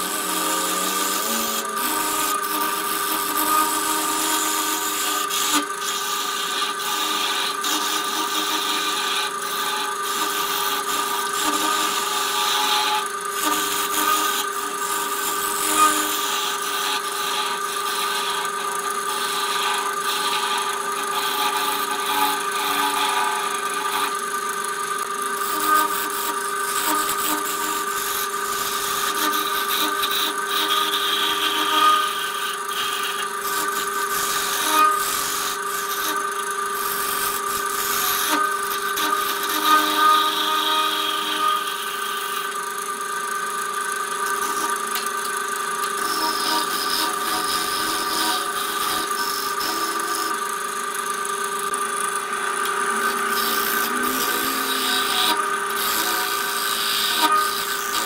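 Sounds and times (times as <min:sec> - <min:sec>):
turning tool scraping wood: 0:00.0 - 0:42.6, 0:43.6 - 0:58.0
wood lathe whine: 0:00.0 - 0:58.0.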